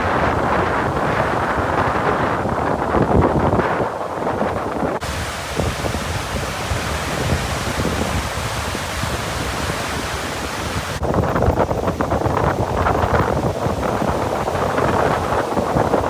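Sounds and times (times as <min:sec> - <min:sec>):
choppy waves: 0:00.0 - 0:16.0
strong wind: 0:00.0 - 0:16.0
wind buffeting microphone: 0:00.0 - 0:16.0.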